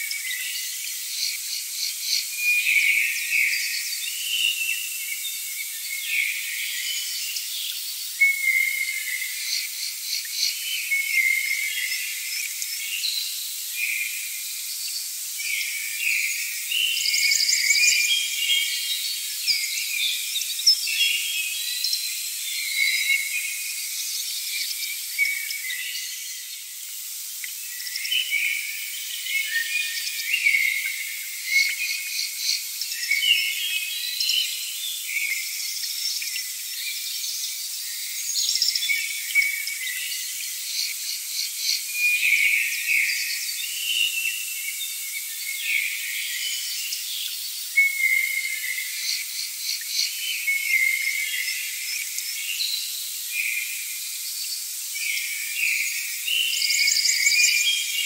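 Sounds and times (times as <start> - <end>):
insects chirping and trilling: 0.0 - 58.0.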